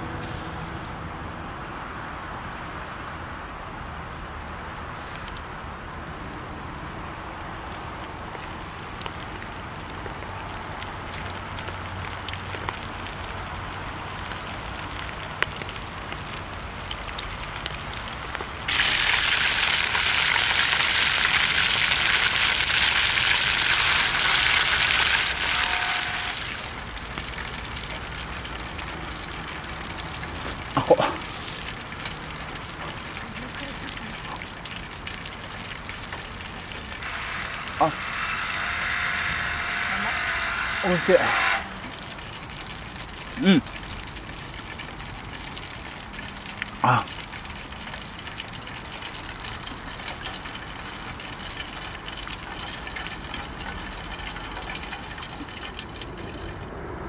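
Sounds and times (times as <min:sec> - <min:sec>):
food sizzling in oil: 0:00.0 - 0:00.8, 0:01.5 - 0:56.7.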